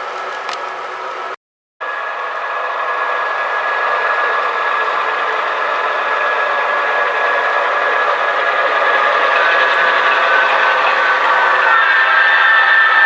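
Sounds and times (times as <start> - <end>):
model train whir and rattle: 0.0 - 13.0.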